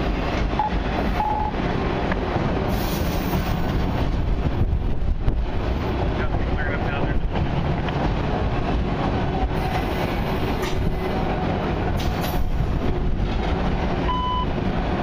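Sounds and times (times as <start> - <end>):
train wheels rumbling and rattling: 0.0 - 15.0.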